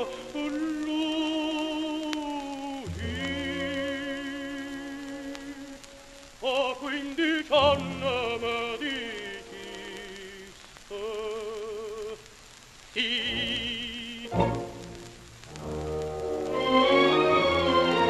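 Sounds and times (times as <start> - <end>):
tenor singing with orchestra: 0.0 - 12.3, 13.0 - 15.1, 16.5 - 18.0
record surface crackle: 0.0 - 18.0.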